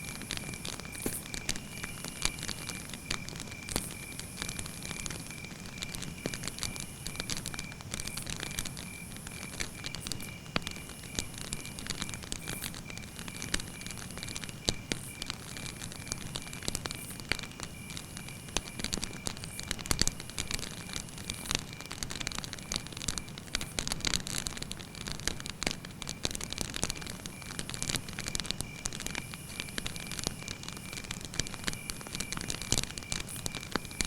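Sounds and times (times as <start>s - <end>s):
campfire wood crackling and popping: 0.0s - 34.0s.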